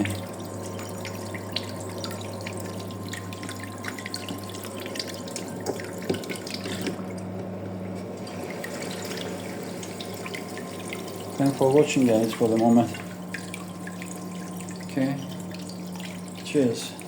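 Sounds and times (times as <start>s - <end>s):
water dripping and trickling: 0.0s - 7.3s, 8.2s - 17.0s
steady low hum: 0.0s - 17.0s.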